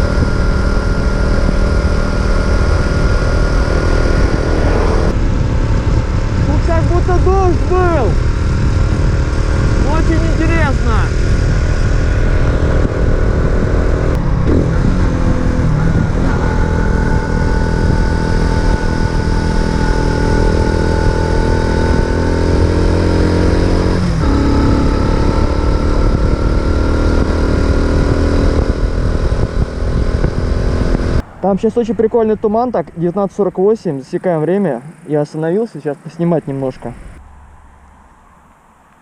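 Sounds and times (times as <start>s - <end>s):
wind on microphone: 0.0s - 32.7s.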